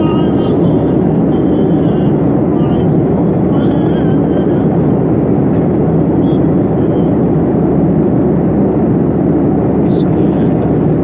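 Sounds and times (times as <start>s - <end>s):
jet airliner roar: 0.0s - 11.0s.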